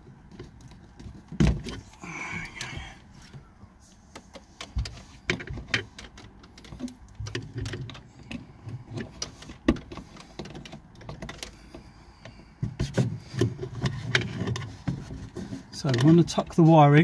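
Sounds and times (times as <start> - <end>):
cable rustling: 0.0 - 16.7.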